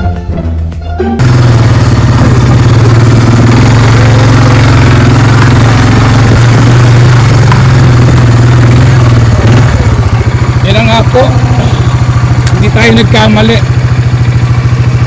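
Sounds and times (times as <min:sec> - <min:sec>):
motorbike engine running: 0:01.2 - 0:15.0.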